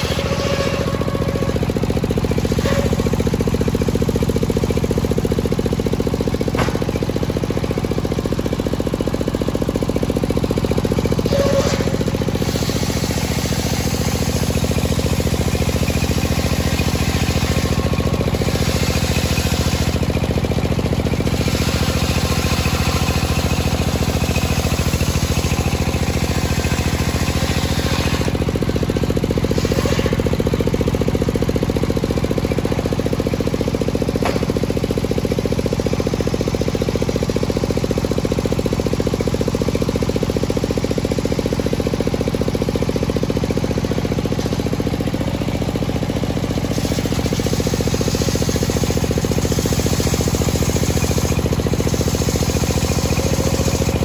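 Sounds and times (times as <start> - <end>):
engine chugging: 0.0 - 54.0.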